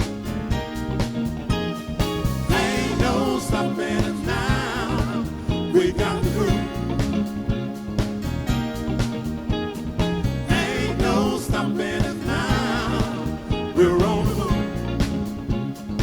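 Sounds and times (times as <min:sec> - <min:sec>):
soul band playing: 0:00.0 - 0:16.0
wavering melodic lead line: 0:00.0 - 0:16.0.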